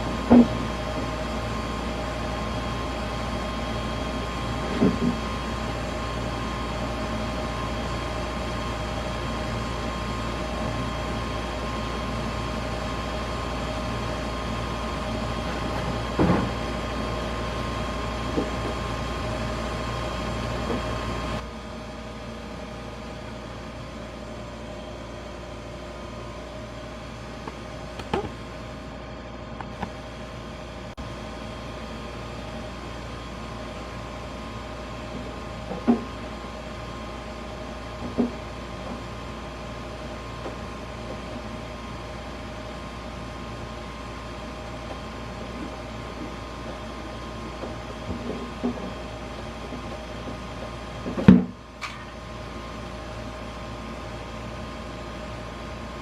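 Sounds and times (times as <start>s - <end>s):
ice machine hum: 0.0s - 56.0s.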